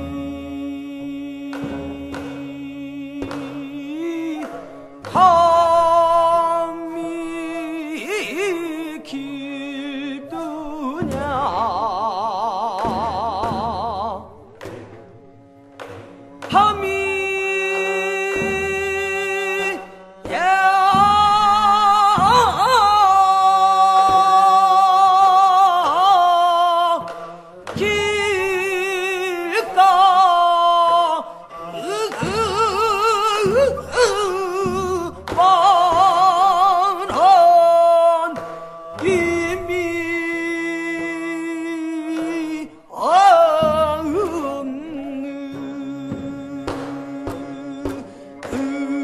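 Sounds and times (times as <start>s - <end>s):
solo voice singing with vibrato: 0.0s - 14.4s, 16.5s - 27.1s, 27.7s - 49.0s
low musical accompaniment: 0.0s - 49.0s.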